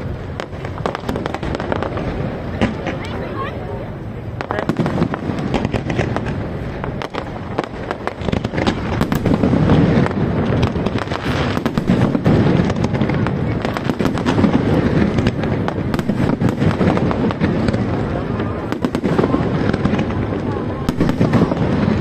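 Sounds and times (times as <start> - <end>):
fireworks popping and crackling: 0.0 - 22.0
rumble of firework bursts: 0.0 - 22.0.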